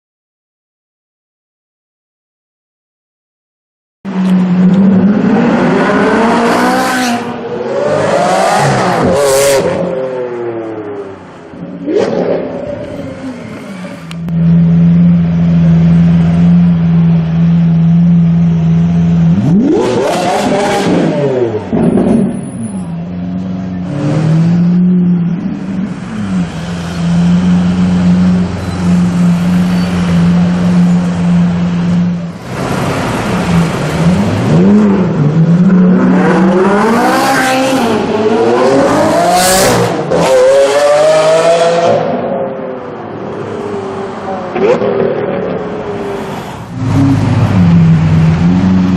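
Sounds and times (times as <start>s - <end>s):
car engine revving: 4.1s - 48.9s.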